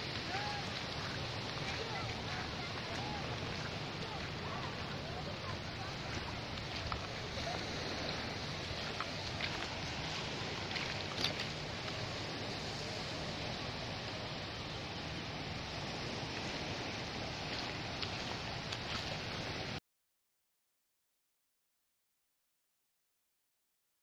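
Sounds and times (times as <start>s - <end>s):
water washing at shore: 0.0s - 19.8s.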